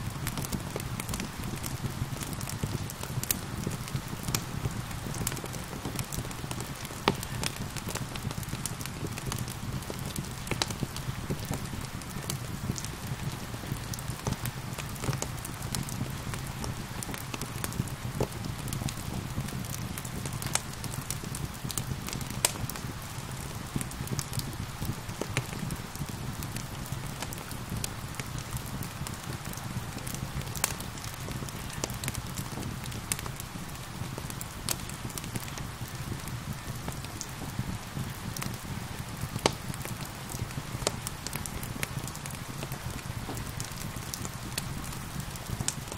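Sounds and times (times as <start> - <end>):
fire crackling and popping: 0.0 - 45.9
steady rain patter: 0.0 - 45.9.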